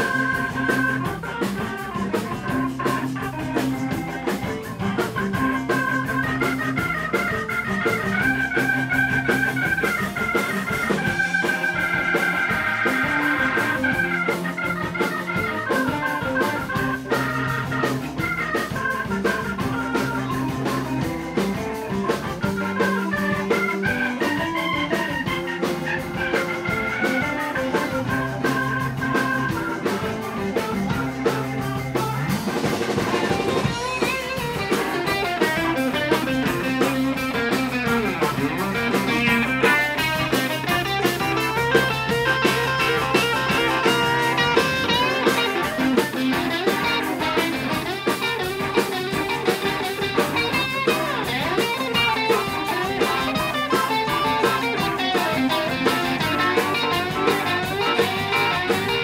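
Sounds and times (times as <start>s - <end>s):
bass line: 0.0s - 59.0s
organ keyboard solo: 0.0s - 59.0s
steady drum beat: 0.0s - 59.0s.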